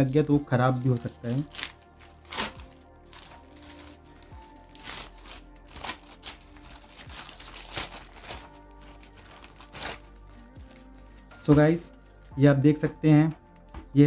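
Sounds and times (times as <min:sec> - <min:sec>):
soft background music: 0:00.0 - 0:14.0
plastic mailer crinkling: 0:00.2 - 0:11.6.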